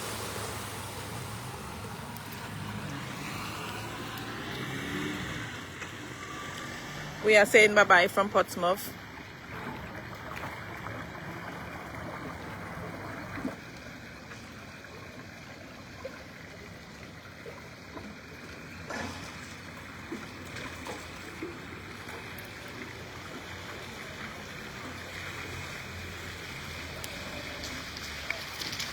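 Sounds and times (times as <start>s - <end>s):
floodwater rushing and trickling: 0.0s - 28.9s
small water splashes: 0.0s - 28.9s.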